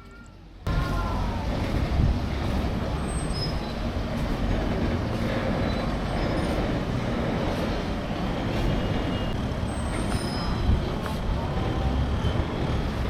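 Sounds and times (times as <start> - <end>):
low urban rumble: 0.0 - 13.0.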